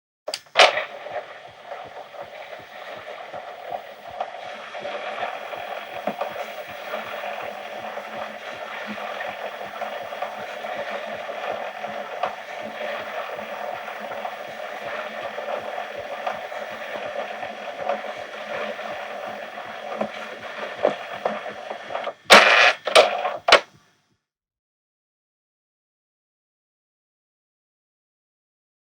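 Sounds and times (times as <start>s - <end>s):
camcorder tape transport whirring: 0.3s - 23.9s.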